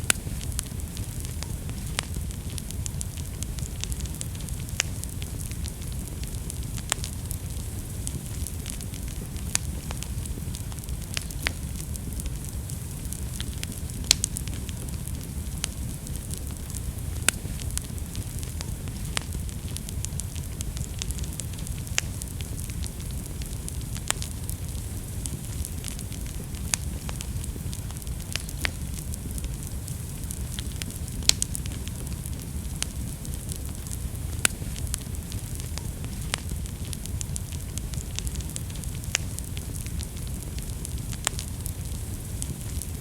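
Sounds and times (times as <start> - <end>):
fire crackling and popping: 0.0 - 43.0
fire flames rumbling: 0.0 - 43.0.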